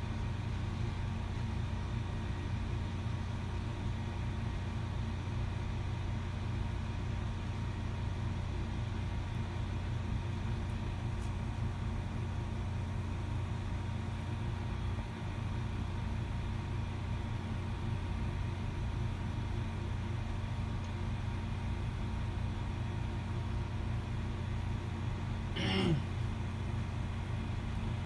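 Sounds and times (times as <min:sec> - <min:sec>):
faint steady whine: 0:00.0 - 0:28.0.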